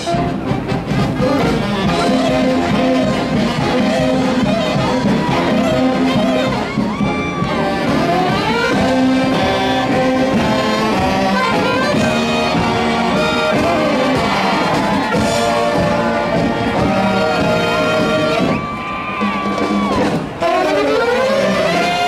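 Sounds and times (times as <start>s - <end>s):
saxophones playing tune: 0.0s - 22.0s
string band playing: 0.0s - 22.0s.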